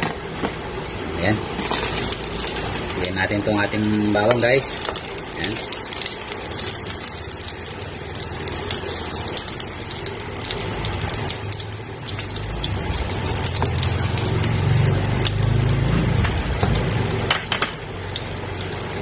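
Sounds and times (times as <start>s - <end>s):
garlic sizzling in oil: 1.4s - 19.0s.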